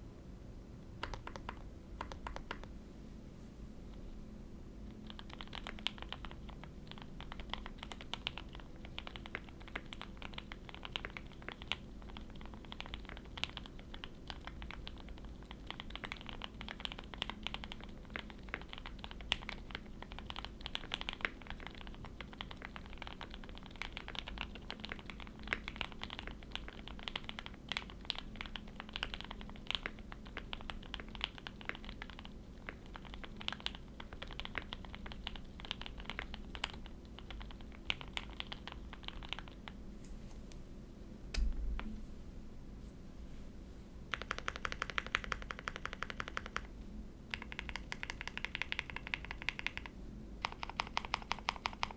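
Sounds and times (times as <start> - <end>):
faint low hum: 0.0 - 51.9
fast typing on mechanical keyboard: 1.0 - 2.7, 5.0 - 39.8, 44.1 - 46.7, 47.3 - 51.9.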